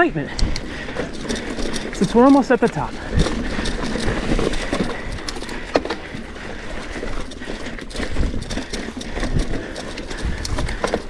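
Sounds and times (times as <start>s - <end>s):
bike tyres rumbling over rock: 0.0s - 11.0s
rider panting: 0.0s - 11.0s
sharp knocks and rattles: 0.4s - 11.0s.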